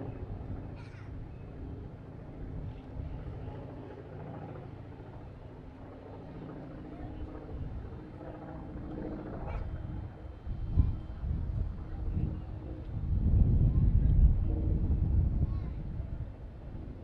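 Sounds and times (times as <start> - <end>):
faint voices: 0.0 - 16.9.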